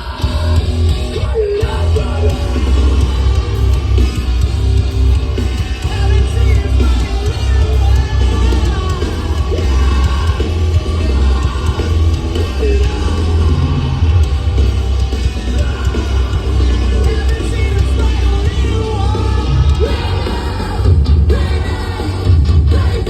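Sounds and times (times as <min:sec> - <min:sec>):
hard rock band playing: 0:00.0 - 0:23.0
singer yelling and singing: 0:00.0 - 0:23.0.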